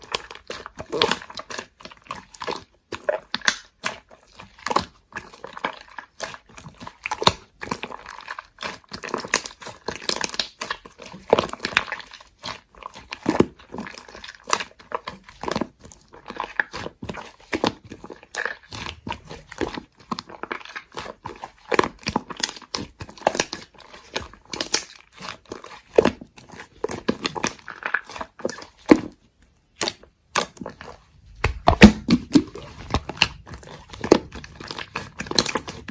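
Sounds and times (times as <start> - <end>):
slime squishing and crackling: 0.0 - 35.9.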